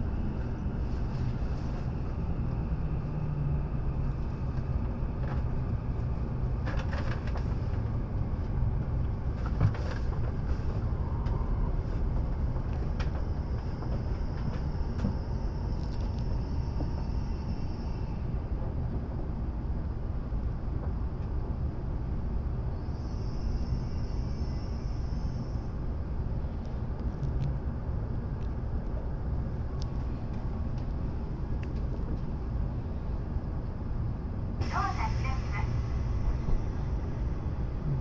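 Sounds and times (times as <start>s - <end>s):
train carriage low rumble: 0.0s - 38.0s.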